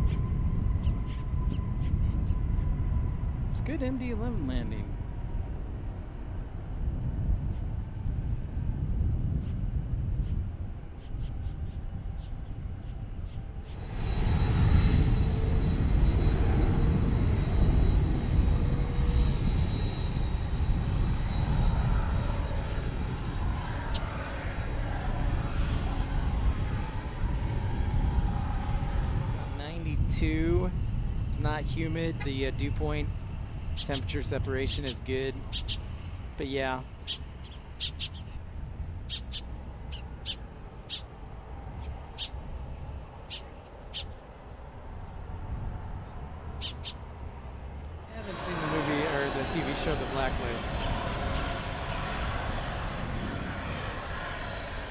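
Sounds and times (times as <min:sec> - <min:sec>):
high jet engine whine: 0:00.0 - 0:54.9
jet engines rumbling: 0:00.0 - 0:54.9
low engine tone: 0:00.0 - 0:54.9.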